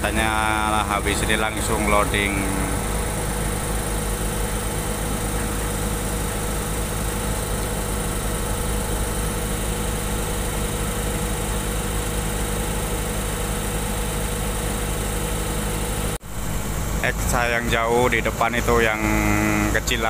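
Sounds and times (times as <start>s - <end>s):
heavy machine engine idling: 0.0s - 20.0s.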